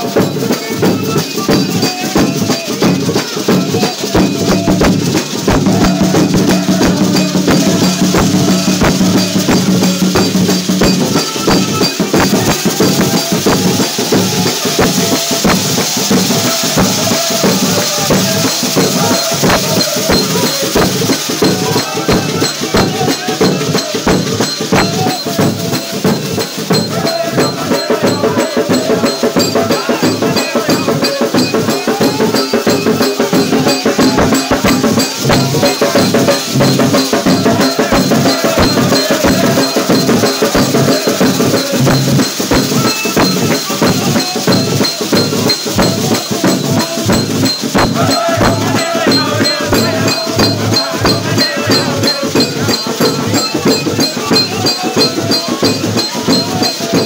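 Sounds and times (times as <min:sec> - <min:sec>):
crowd singing along: 0:00.0 - 0:57.0
hide drums beaten with sticks: 0:00.0 - 0:57.0
rattling shakers: 0:00.0 - 0:57.0.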